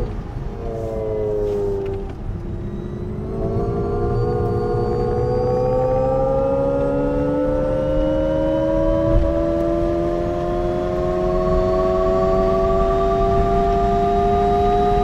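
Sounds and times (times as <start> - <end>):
low road rumble: 0.0 - 15.0
synthesized electric car drive tones: 0.0 - 15.0.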